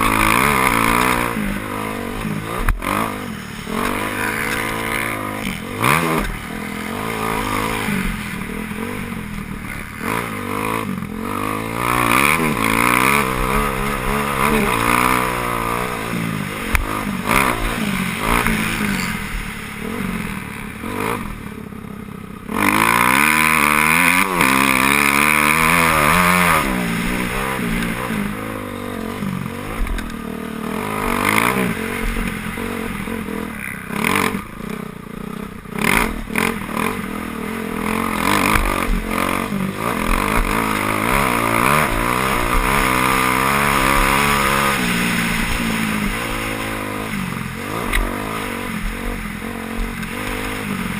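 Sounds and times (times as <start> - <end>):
motocross bike engines revving: 0.0 - 50.9
motorbike passing close: 0.0 - 50.9.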